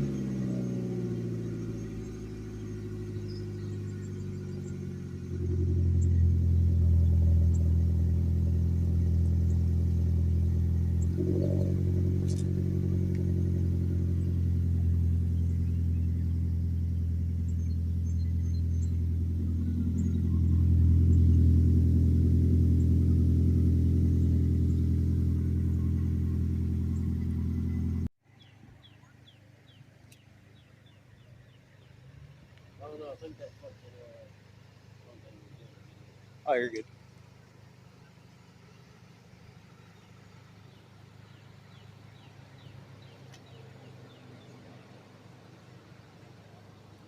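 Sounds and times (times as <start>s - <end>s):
car engine droning: 0.0s - 47.0s.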